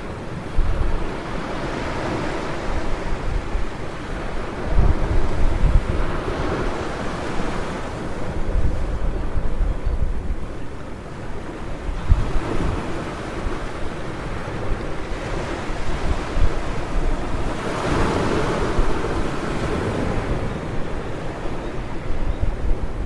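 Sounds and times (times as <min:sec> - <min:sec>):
waves washing on beach: 0:00.0 - 0:23.0
wind buffeting microphone: 0:00.0 - 0:23.0.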